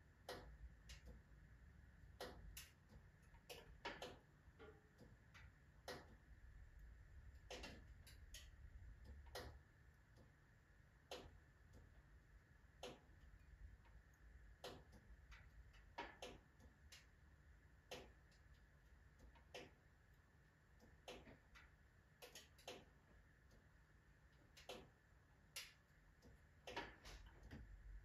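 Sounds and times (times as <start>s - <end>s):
low rumble of fire: 0.0s - 28.0s.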